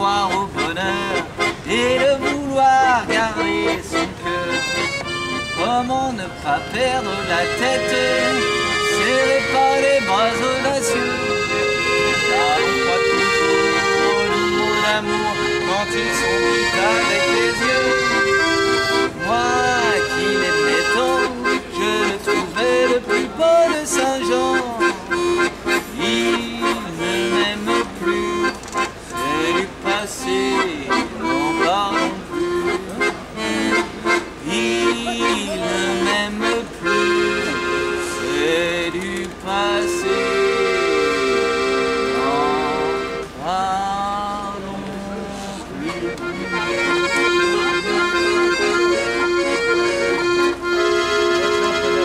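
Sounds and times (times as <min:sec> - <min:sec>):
accordion melody: 0:00.0 - 0:52.0
person singing: 0:05.5 - 0:11.4, 0:12.2 - 0:18.6, 0:19.2 - 0:25.1, 0:25.9 - 0:28.6, 0:29.2 - 0:50.4.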